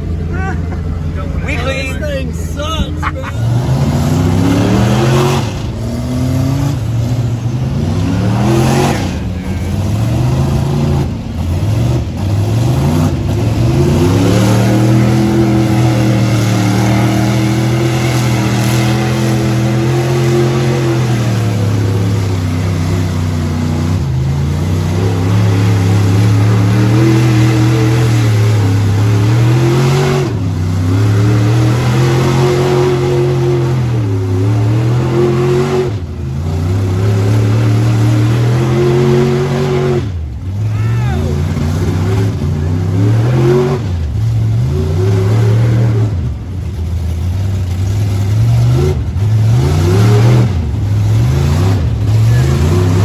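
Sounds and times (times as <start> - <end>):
truck engine revving hard: 0.0 - 53.0.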